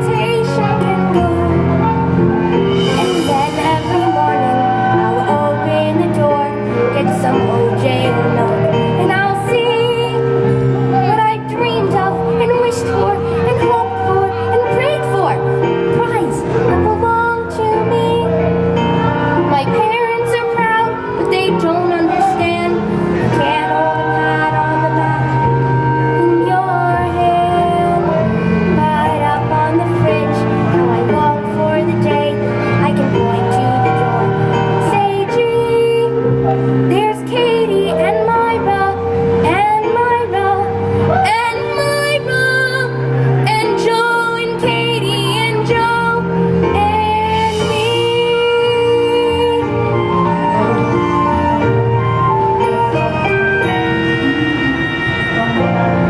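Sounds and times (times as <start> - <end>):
woman singing show tune: 0.0 - 51.6
instrumental accompaniment: 0.0 - 56.0.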